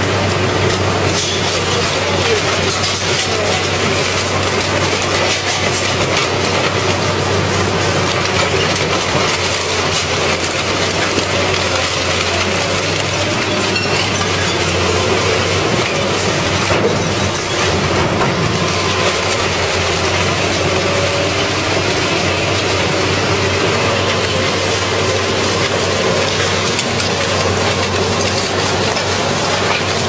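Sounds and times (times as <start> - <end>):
metal grinding and crunching: 0.0 - 30.0.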